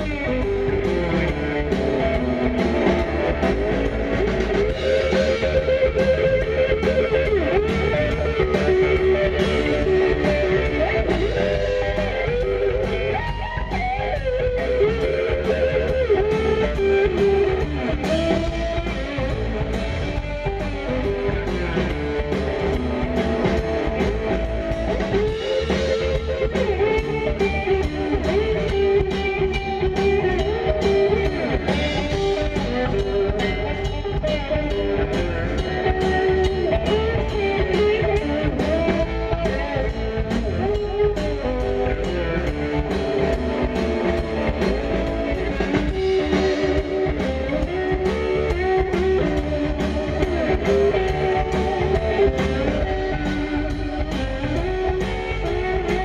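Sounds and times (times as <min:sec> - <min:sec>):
bass guitar: 0:00.0 - 0:56.0
drum kit beat: 0:00.0 - 0:56.0
electric guitar bending notes: 0:00.0 - 0:56.0.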